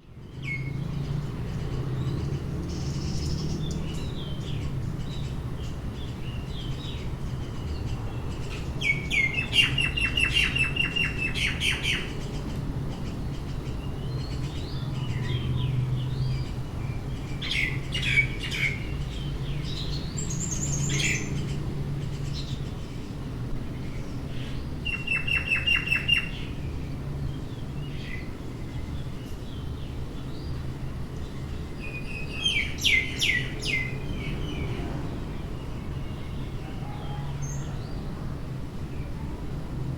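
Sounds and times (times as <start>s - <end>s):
small birds chirping: 0.1s - 38.1s.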